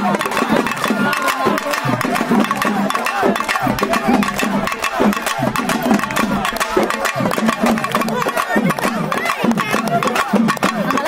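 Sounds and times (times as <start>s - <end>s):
hand drums beating: 0.0s - 11.0s
voices singing: 0.0s - 11.0s.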